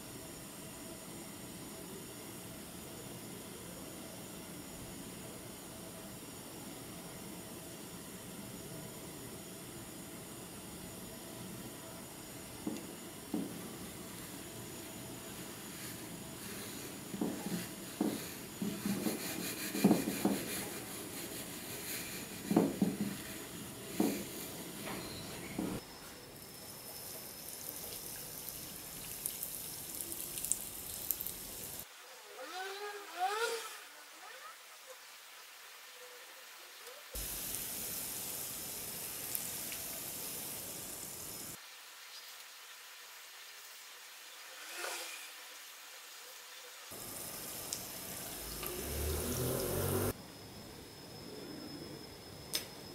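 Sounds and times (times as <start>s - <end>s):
hot oil sizzling: 0.0s - 31.9s, 37.2s - 50.2s.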